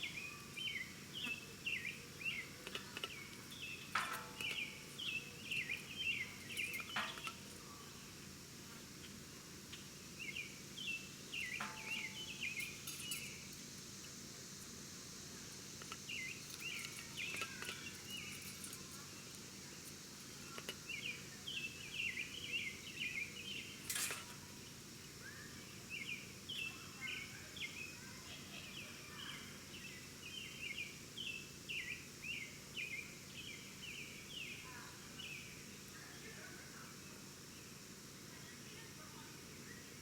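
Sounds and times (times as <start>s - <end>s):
high insect drone: 0.0s - 40.0s
small birds chirping: 0.0s - 40.0s.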